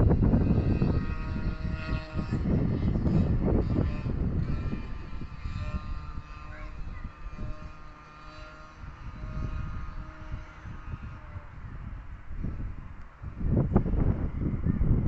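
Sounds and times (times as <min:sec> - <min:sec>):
distant engine drone: 0:00.0 - 0:15.0
low gusty rumble: 0:00.0 - 0:15.0.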